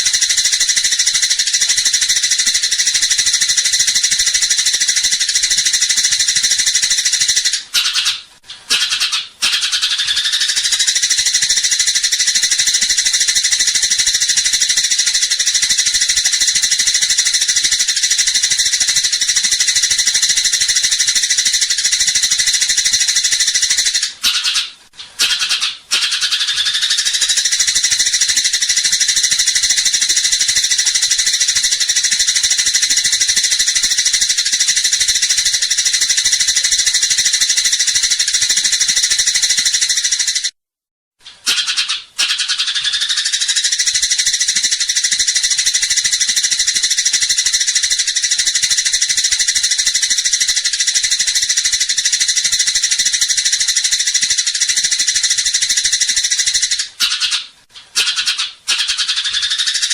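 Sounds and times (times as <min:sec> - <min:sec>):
sparrows chattering: 0:00.0 - 0:40.5, 0:41.4 - 0:59.9.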